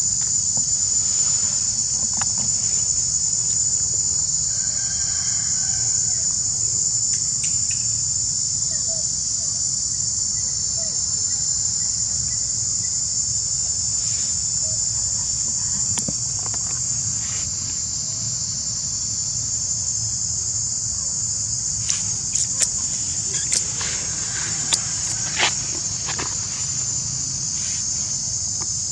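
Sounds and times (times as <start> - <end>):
insect chorus drone: 0.0 - 28.9.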